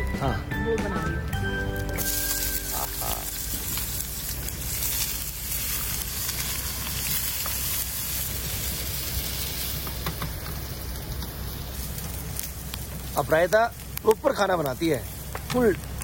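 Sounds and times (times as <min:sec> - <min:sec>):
food sizzling in a pan: 0:01.9 - 0:15.4.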